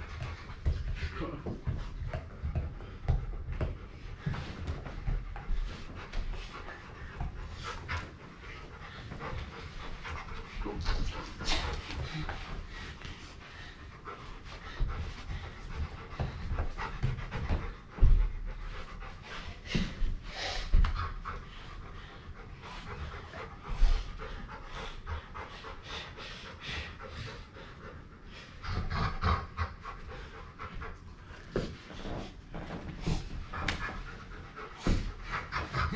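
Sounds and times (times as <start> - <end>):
dog panting: 0.0 - 35.9.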